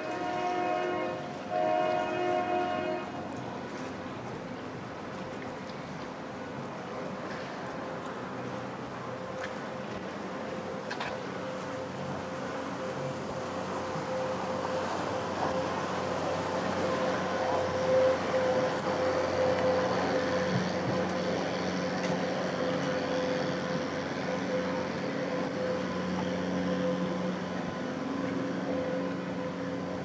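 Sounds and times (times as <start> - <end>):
engine hum: 0.0 - 30.0
outdoor background noise: 0.0 - 30.0.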